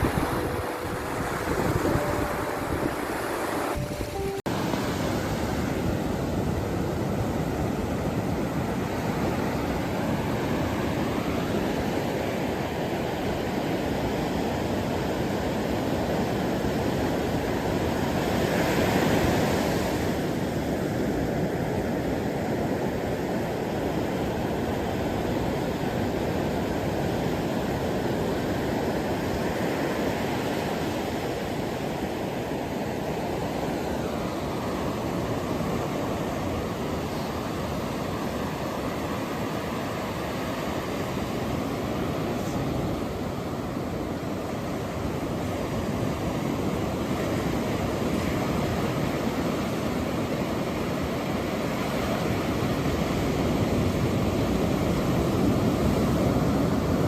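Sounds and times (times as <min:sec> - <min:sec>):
ocean waves washing: 0:00.0 - 0:57.0.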